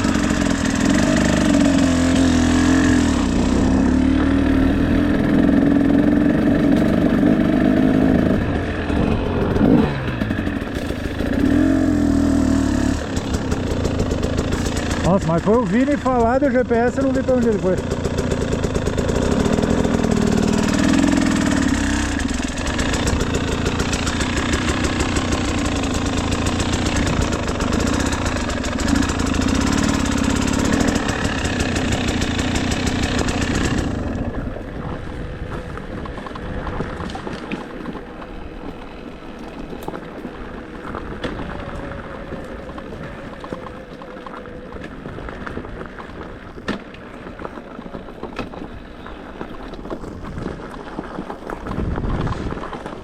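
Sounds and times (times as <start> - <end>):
two-stroke dirt bike engine revving: 0.0 - 43.8
low engine running: 0.0 - 53.0.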